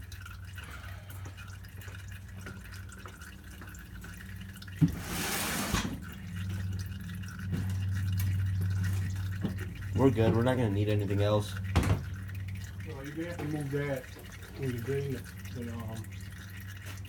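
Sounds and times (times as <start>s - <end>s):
oil dripping into a pan: 0.0s - 5.1s, 5.9s - 17.0s
steady low hum: 0.0s - 17.0s.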